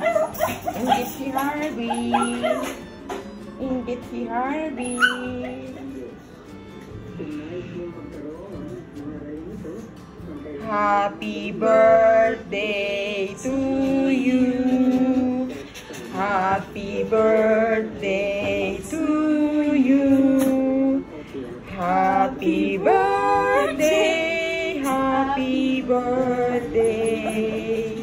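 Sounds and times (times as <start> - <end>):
music: 0.0 - 28.0
woman singing: 0.4 - 6.1, 10.6 - 21.1, 21.7 - 28.0.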